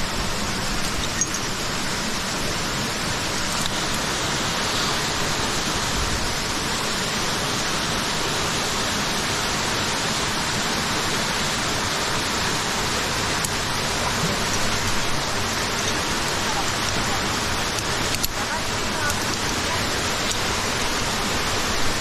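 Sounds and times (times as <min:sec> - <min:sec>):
mountain stream rushing water: 0:00.0 - 0:22.0.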